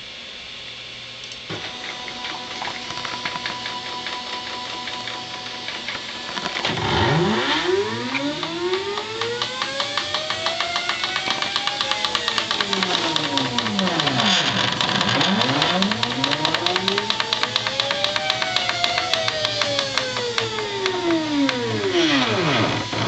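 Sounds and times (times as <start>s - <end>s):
fine clicking: 1.2s - 23.0s
stepper motors whining: 1.5s - 23.0s.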